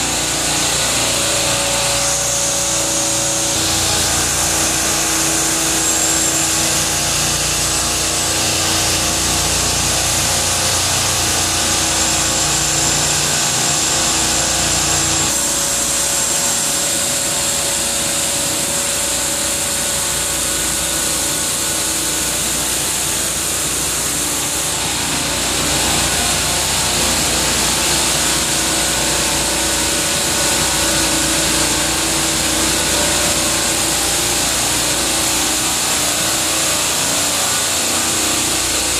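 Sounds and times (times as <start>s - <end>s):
refrigeration compressors humming: 0.0s - 38.9s.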